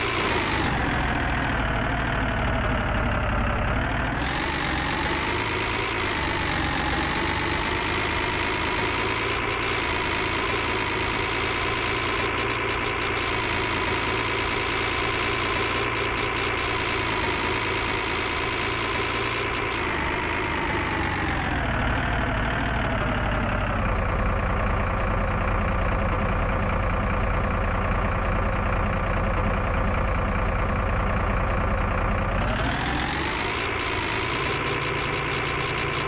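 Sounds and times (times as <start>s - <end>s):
vehicle engine idling and revving: 0.0s - 36.0s.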